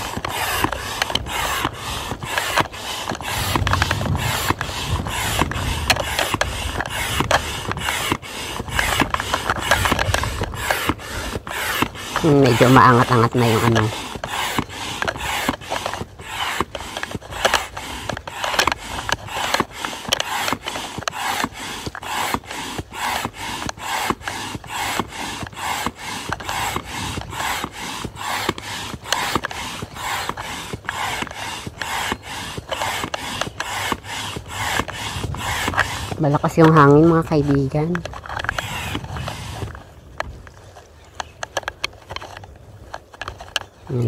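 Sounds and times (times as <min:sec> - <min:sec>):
hand pump air rushing: 0:00.0 - 0:44.0.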